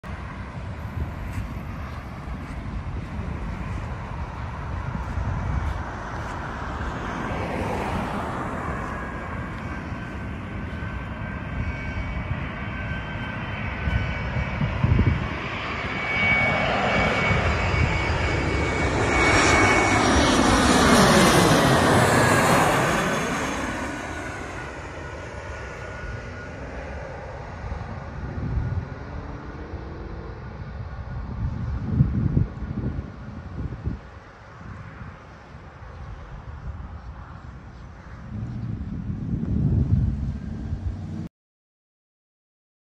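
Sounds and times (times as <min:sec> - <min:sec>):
high jet whine: 0:00.0 - 0:41.3
jet airliner passing overhead: 0:00.0 - 0:41.3.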